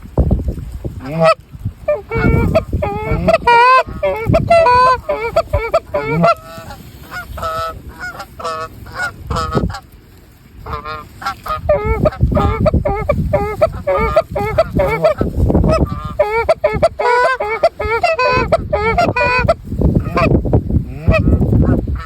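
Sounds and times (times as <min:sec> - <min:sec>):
goose honks and clucks: 0:01.0 - 0:09.9, 0:10.6 - 0:22.0.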